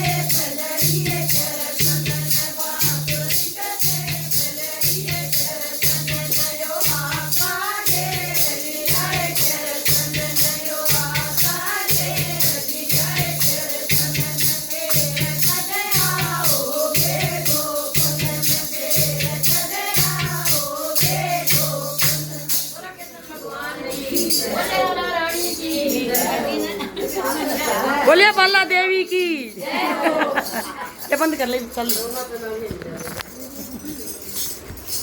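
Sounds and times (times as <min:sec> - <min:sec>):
devotional song being sung: 0:00.0 - 0:28.1
rattling percussion: 0:00.0 - 0:35.0.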